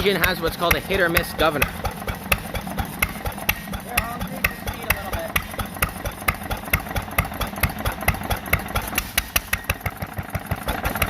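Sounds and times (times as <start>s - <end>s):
engine mechanical knocks: 0.0s - 11.0s.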